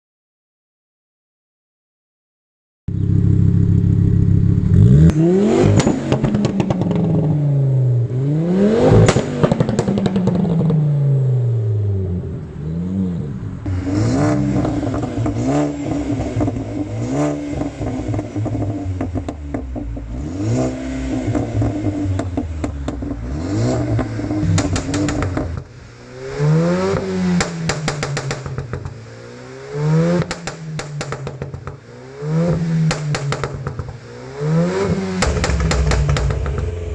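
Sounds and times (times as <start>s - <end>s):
car engine revving: 2.9s - 36.9s
exhaust popping and crackling: 2.9s - 36.9s.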